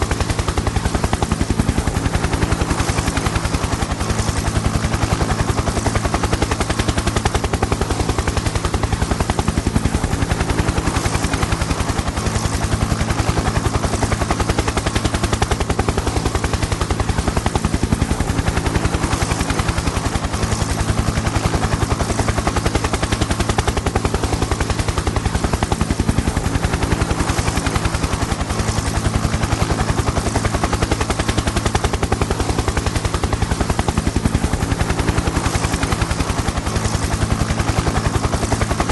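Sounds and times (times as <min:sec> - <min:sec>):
helicopter engine drone: 0:00.0 - 0:38.9
helicopter rotor chop: 0:00.0 - 0:38.9.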